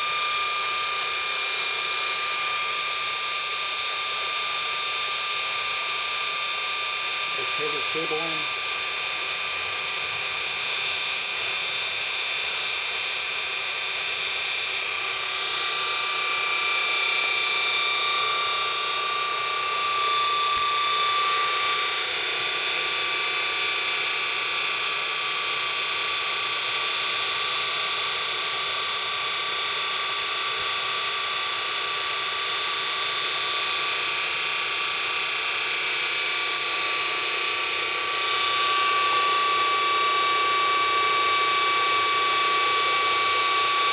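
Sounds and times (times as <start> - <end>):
electric motor whine: 0.0 - 43.9.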